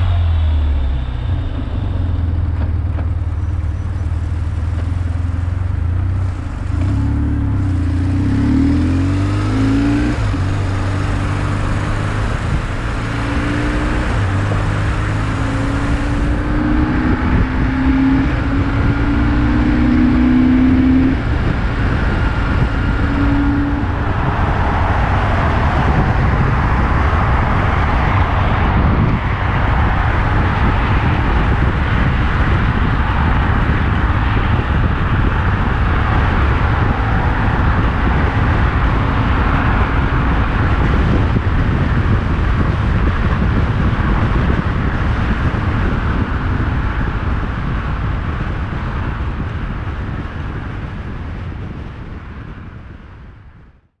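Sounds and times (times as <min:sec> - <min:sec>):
motorcycle engine: 0:00.0 - 0:47.4
wind and road noise: 0:00.0 - 0:54.0.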